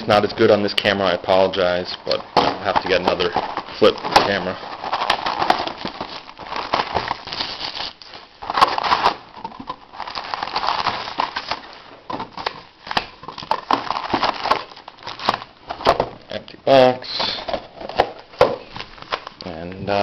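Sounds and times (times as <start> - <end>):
plastic shrink-wrap crinkling: 0.0 - 15.9, 17.3 - 20.0
card packs handled: 0.0 - 16.2, 17.0 - 20.0.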